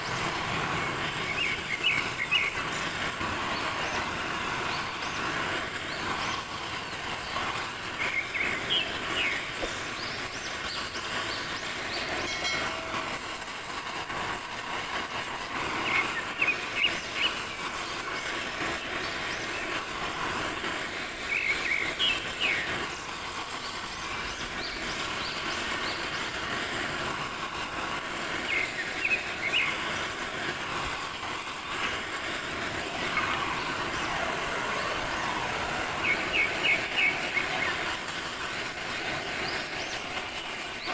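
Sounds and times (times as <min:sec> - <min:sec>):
gas torch flame hissing: 0:00.0 - 0:40.9.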